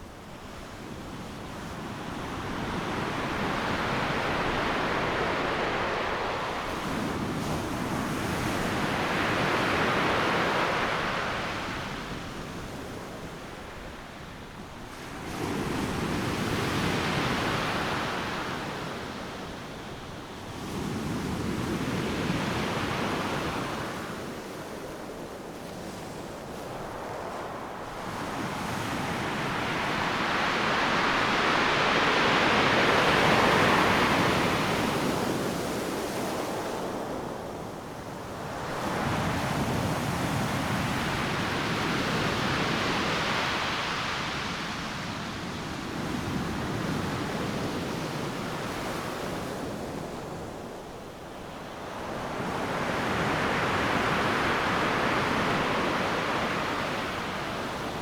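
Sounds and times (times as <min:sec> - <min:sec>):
ocean waves breaking on beach: 0:00.7 - 0:58.0.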